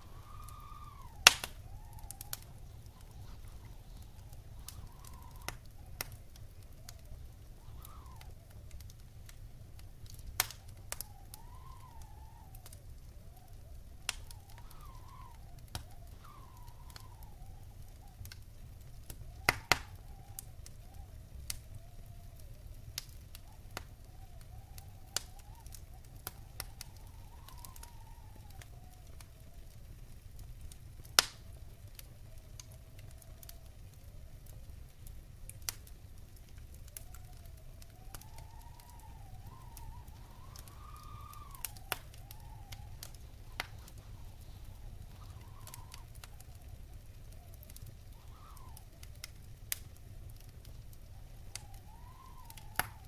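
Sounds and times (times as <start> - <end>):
faint high whistle: 0.0 - 8.8, 10.1 - 18.3, 18.9 - 29.8, 36.8 - 53.0
low steady rumble: 0.0 - 53.0
wood fire crackling and popping: 0.0 - 53.0.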